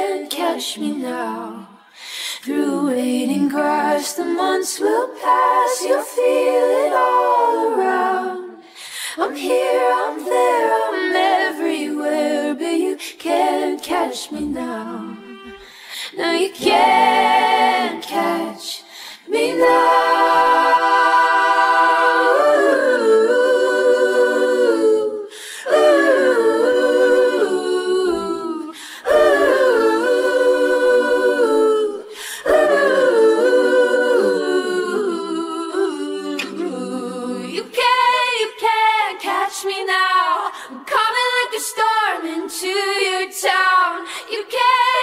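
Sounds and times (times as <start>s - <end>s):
person singing a cappella: 0.0s - 45.0s.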